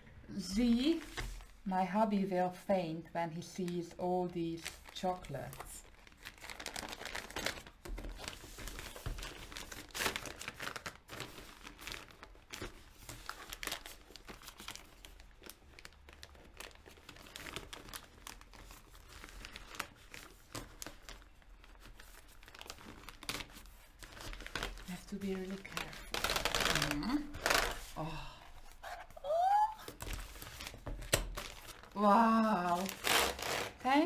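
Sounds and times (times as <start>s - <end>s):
plastic bag crinkling: 4.2s - 34.0s.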